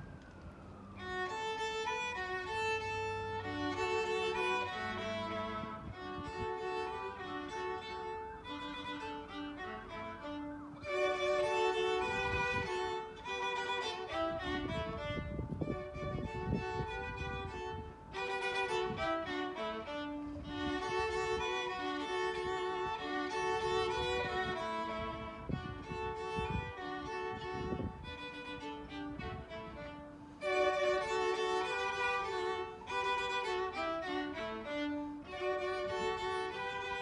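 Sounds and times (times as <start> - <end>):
violin and viola duet: 0.0 - 37.0.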